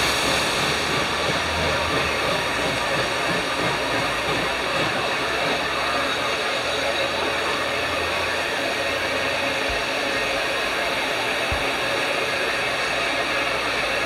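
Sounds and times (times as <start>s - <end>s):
steam train rushing hiss: 0.0s - 14.0s.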